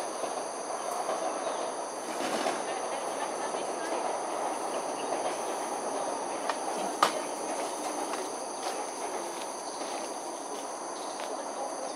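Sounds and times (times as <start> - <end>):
train rumbling on elevated track: 0.0 - 11.9.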